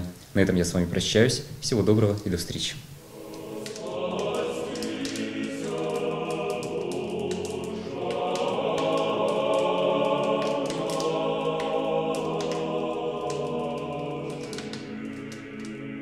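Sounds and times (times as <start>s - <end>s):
choir singing held chords: 3.0s - 16.0s
faint irregular clicks: 3.1s - 16.0s.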